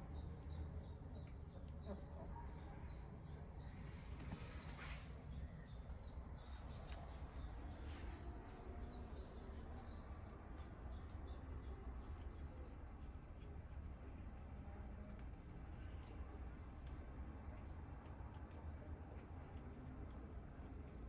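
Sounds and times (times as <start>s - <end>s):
small birds chirping: 0.0s - 21.0s
steady low rumble: 3.6s - 21.0s.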